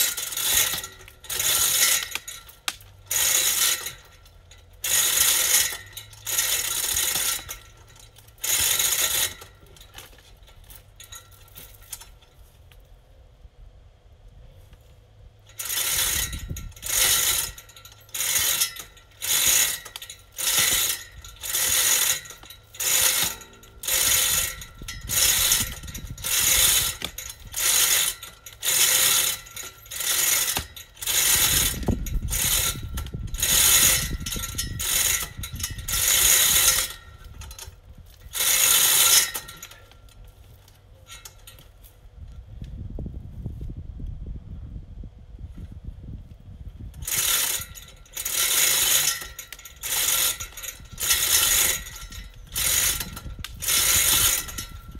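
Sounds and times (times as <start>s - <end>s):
chain hoist chain rattling: 0.0s - 12.5s, 15.4s - 42.0s, 46.9s - 54.9s.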